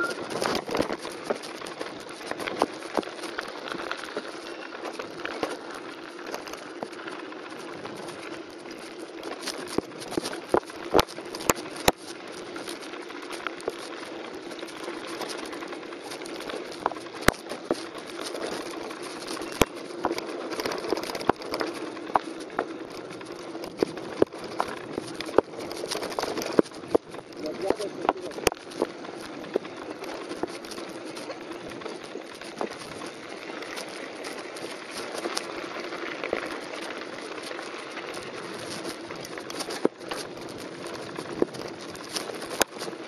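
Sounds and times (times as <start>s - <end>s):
bike knocking and rattling: 0.0s - 43.0s
bike tyres crunching on gravel: 0.0s - 43.0s.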